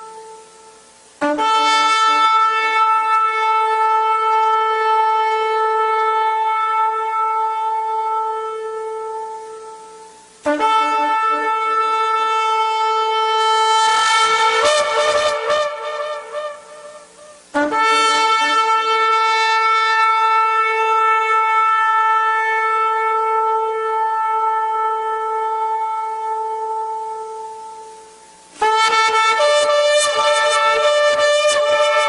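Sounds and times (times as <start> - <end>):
ram's horn blast: 0.0 - 32.0
rough wavering horn blast: 0.0 - 32.0.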